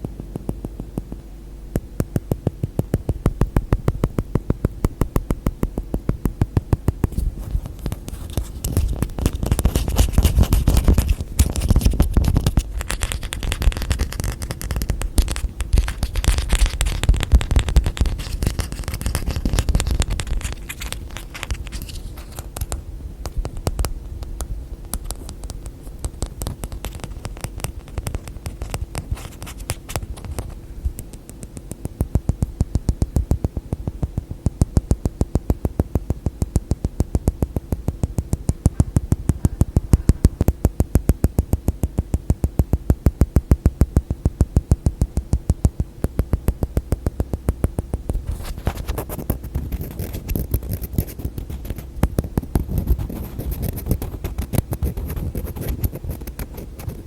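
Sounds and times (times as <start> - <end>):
rapid hand tapping on objects: 0.0 - 57.0.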